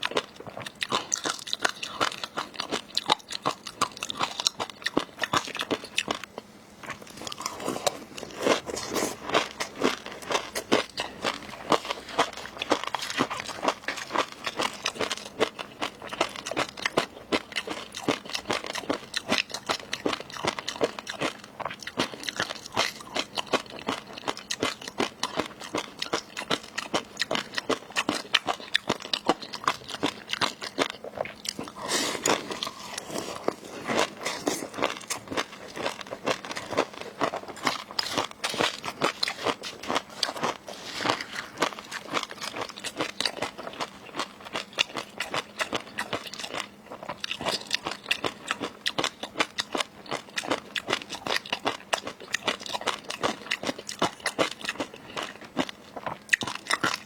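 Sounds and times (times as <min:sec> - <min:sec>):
crunching and chewing seafood: 0:00.0 - 0:57.0.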